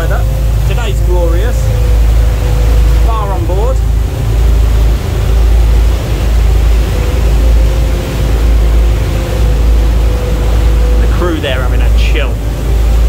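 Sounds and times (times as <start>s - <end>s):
boat engine rumble: 0.0s - 13.0s
faint steady whine: 0.0s - 13.0s.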